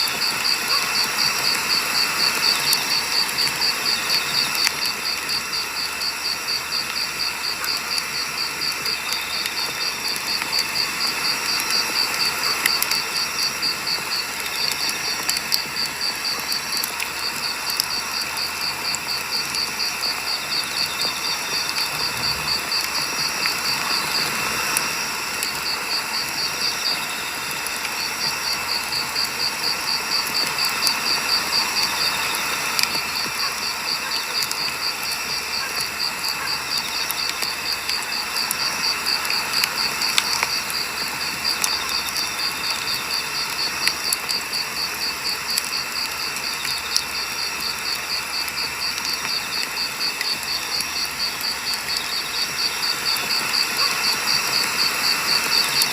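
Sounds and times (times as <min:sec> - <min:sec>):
campfire crackling and popping: 0:00.0 - 0:55.9
insect chirping: 0:00.0 - 0:55.9.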